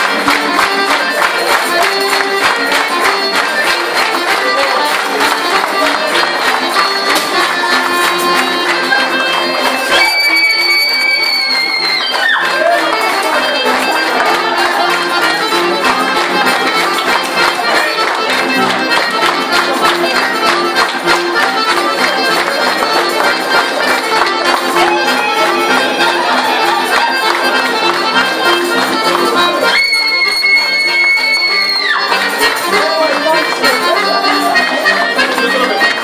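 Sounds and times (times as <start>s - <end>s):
accordion folk dance music: 0.0s - 36.0s.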